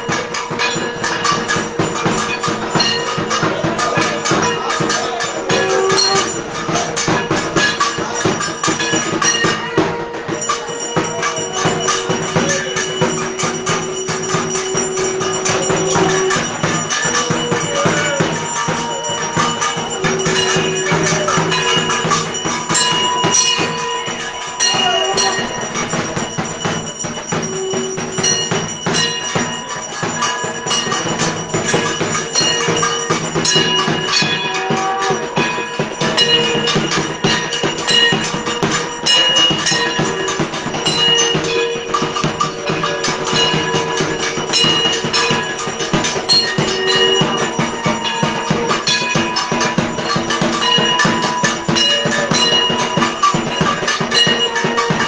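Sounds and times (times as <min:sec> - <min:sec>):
fast dense percussion: 0:00.0 - 0:55.0
held melodic notes: 0:00.0 - 0:55.0
ringing bell-like tones: 0:00.0 - 0:55.0.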